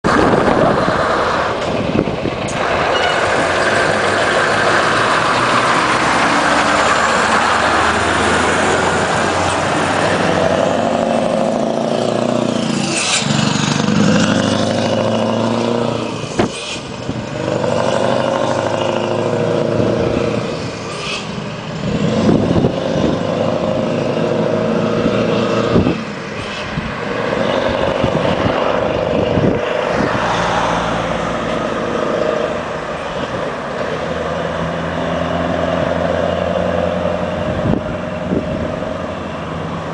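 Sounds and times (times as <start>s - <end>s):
trucks accelerating past: 0.1s - 39.9s.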